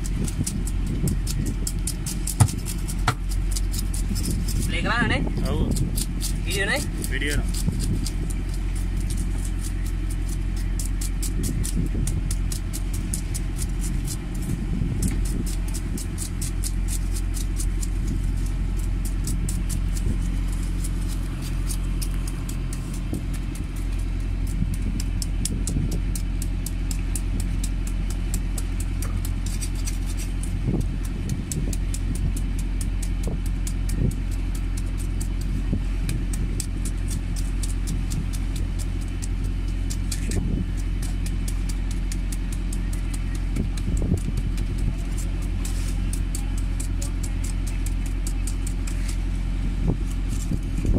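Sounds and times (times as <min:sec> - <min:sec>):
engine running with ticking: 0:00.0 - 0:50.9.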